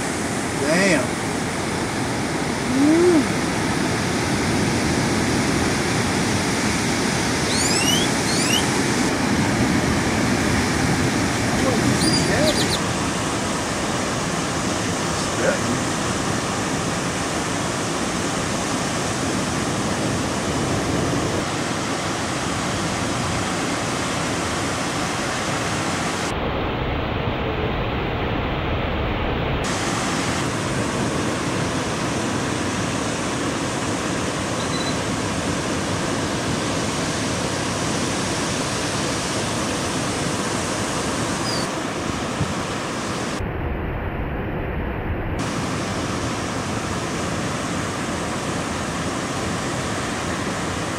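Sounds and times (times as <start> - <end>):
ocean surf breaking: 0.0 - 43.6, 44.3 - 50.9.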